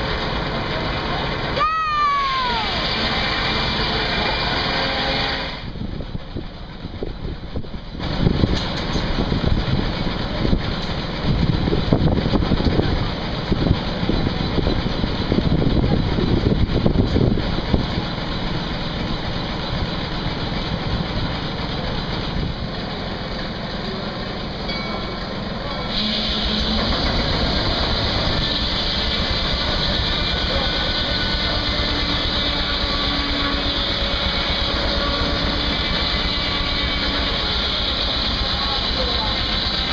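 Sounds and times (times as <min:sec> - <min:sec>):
steam traction engine running: 0:00.0 - 0:39.9.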